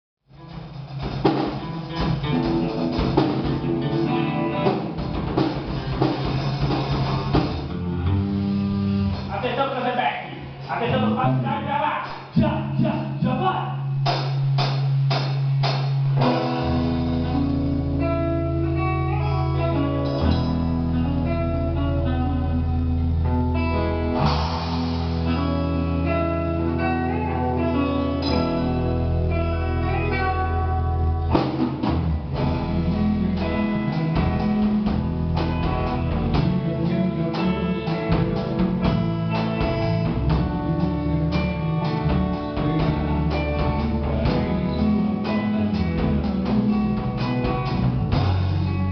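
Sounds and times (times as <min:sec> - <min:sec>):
drum kit: 0:00.3 - 0:48.9
guitar: 0:00.3 - 0:48.9
sustained bass notes: 0:00.3 - 0:48.9.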